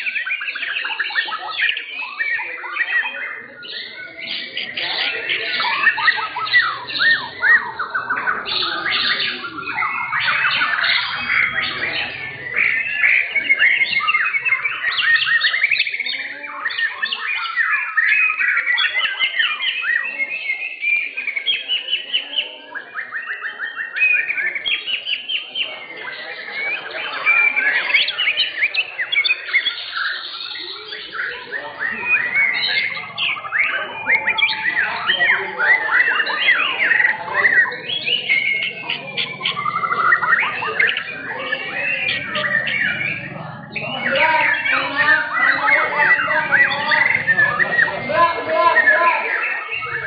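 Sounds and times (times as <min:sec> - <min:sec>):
birds singing whistled trills: 0:00.0 - 0:50.0.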